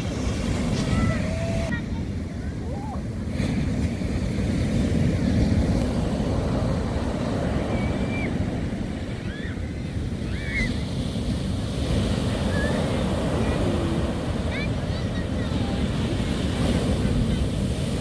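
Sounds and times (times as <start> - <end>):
sea surf washing onto beach: 0.0 - 18.0
wind rumbling on microphone: 0.0 - 18.0.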